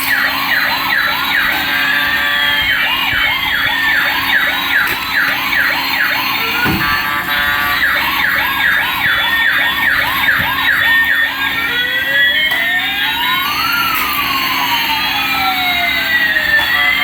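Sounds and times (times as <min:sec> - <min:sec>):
toy siren fast yelp: 0:00.0 - 0:17.0
toy siren wail: 0:00.0 - 0:17.0.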